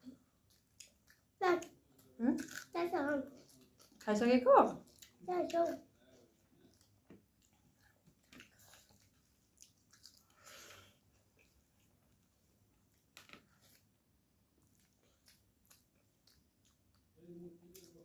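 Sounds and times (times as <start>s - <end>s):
soft chewing: 0.0s - 18.0s.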